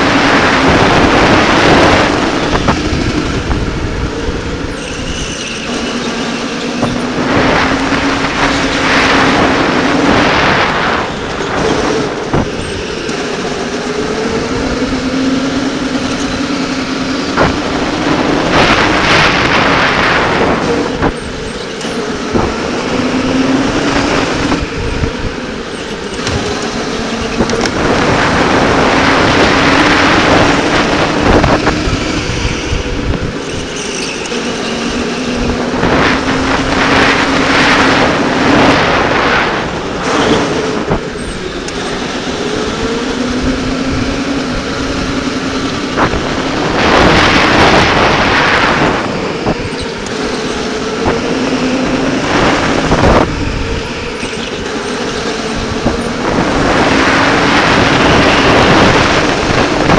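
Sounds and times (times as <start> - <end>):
electric go-kart motor whining: 0.0 - 59.9
wind rushing over microphone: 0.0 - 59.9.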